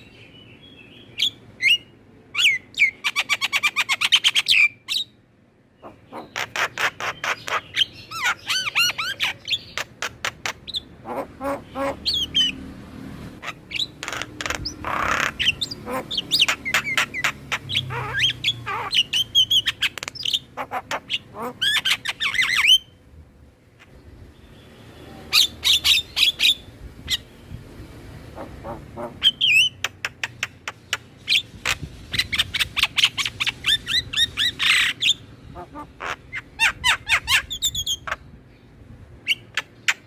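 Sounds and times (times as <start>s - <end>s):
starlings chattering song: 0.0s - 40.0s.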